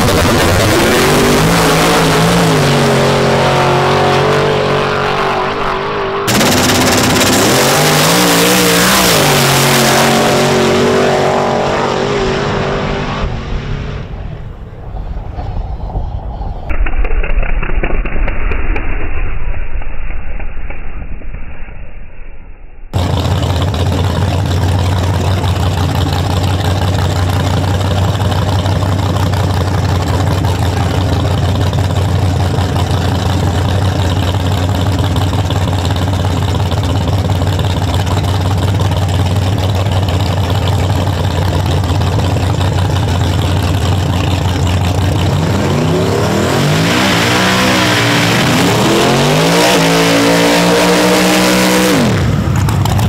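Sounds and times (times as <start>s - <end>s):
car engine revving: 0.0s - 14.6s, 23.0s - 53.0s.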